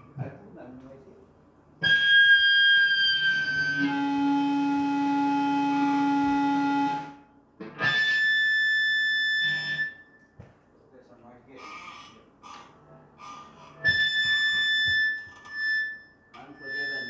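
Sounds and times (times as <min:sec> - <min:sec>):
electronic keyboard held notes: 0:01.8 - 0:10.3, 0:11.6 - 0:17.0.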